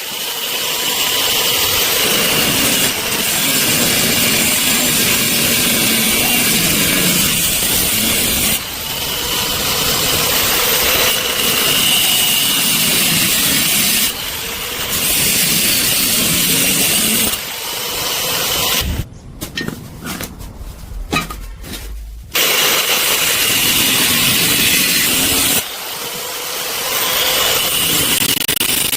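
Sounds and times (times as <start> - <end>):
angle grinder cutting steel: 0.0 - 18.8, 22.4 - 28.9.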